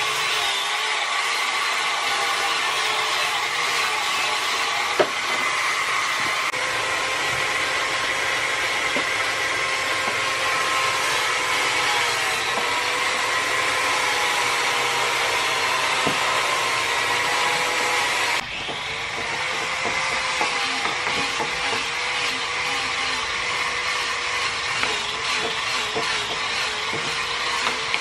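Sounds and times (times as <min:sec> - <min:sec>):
rotary tool sanding wood: 0:00.0 - 0:28.0.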